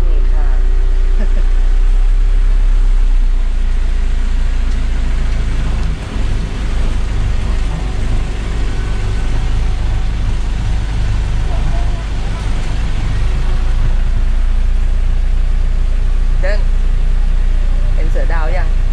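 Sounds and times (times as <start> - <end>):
car engine rumble: 0.0 - 18.9
road noise: 0.0 - 18.9.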